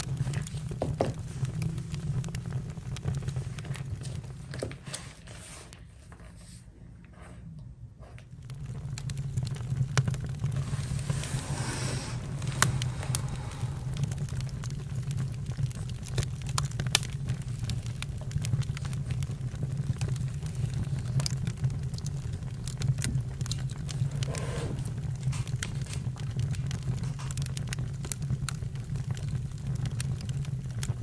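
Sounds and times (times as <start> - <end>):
campfire pops and crackles: 0.0 - 5.0, 8.3 - 31.0
fire low rumble: 0.0 - 5.8, 8.1 - 31.0.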